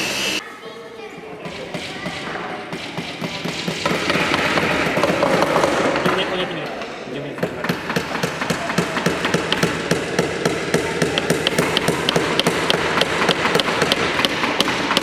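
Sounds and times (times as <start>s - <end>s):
hammers driving nails into wood: 1.7s - 6.3s, 7.4s - 15.0s.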